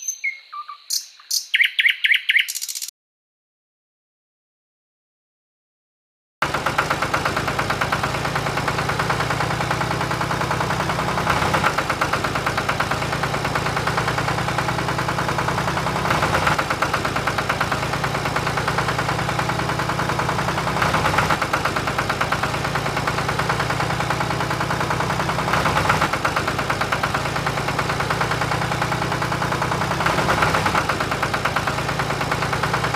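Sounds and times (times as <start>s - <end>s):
tractor engine idling: 6.4s - 32.9s.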